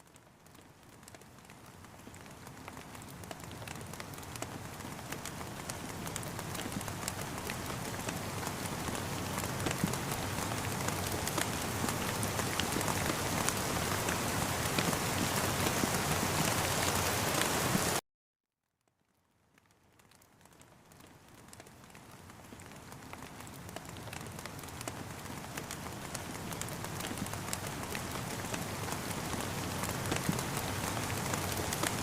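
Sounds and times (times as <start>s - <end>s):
raindrops tapping: 0.2s - 17.9s, 19.7s - 32.0s.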